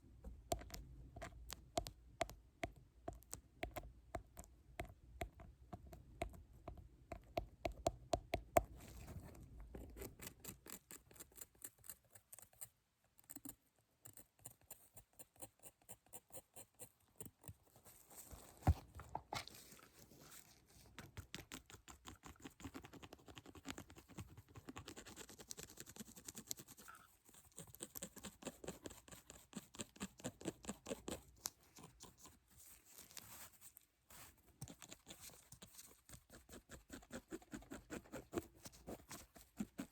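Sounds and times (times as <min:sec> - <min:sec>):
light tapping and scratching: 0:00.2 - 0:39.9.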